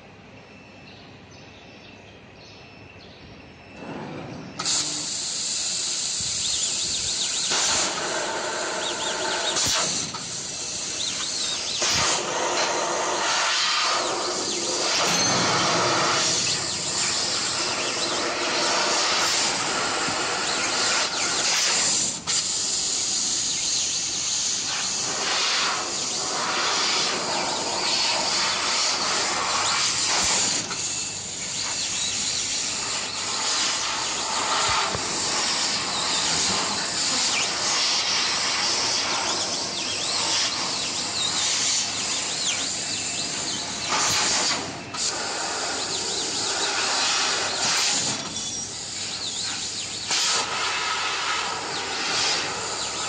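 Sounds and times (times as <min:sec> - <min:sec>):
laser cutter gas hiss: 0:03.8 - 0:53.0.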